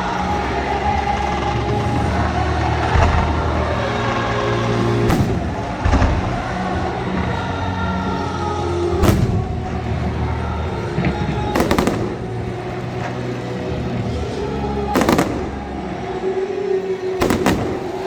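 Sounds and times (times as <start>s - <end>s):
fireworks bangs: 0.0s - 16.2s, 17.2s - 18.0s
background music: 0.0s - 18.0s.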